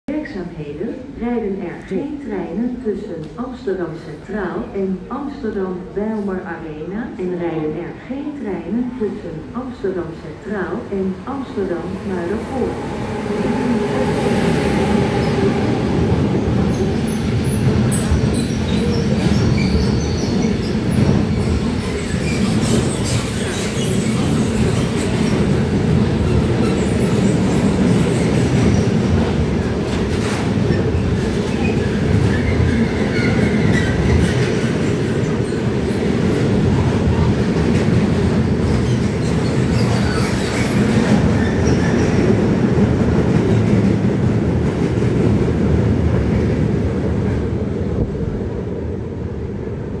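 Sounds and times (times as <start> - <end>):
freight train rumbling past: 9.4 - 50.0.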